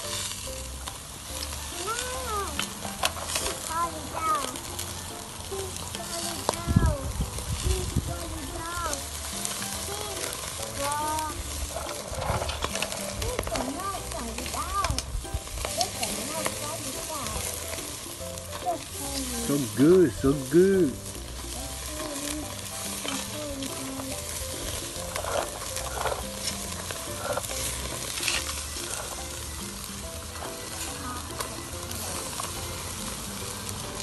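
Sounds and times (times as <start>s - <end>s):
meat sizzling on a grill: 0.0s - 34.0s.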